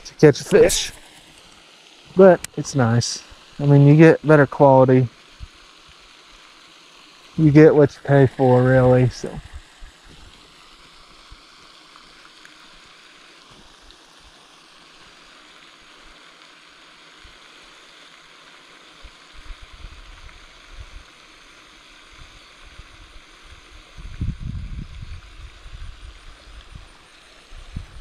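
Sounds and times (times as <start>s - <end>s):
steady rushing hiss: 0.0s - 28.0s.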